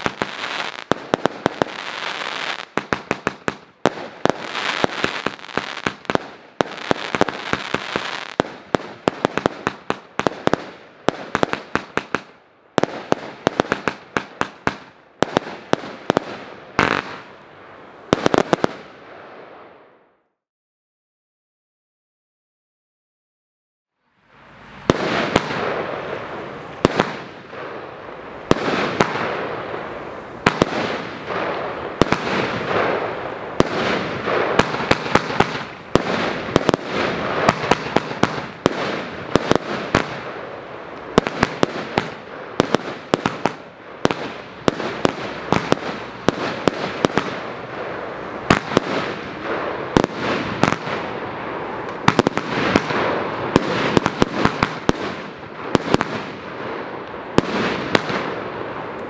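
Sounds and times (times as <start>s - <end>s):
crackling hiss: 0.0s - 19.6s, 24.0s - 59.0s
firework bangs: 0.0s - 19.9s, 24.6s - 59.0s.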